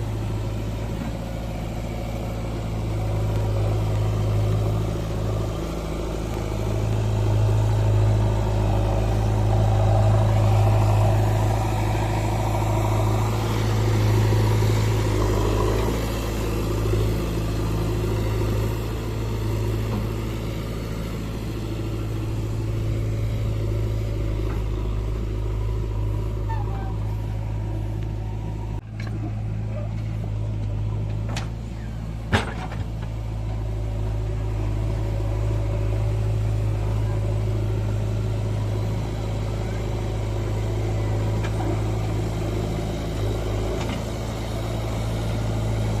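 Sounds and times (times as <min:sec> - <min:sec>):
heavy diesel engine humming: 0:00.0 - 0:46.0.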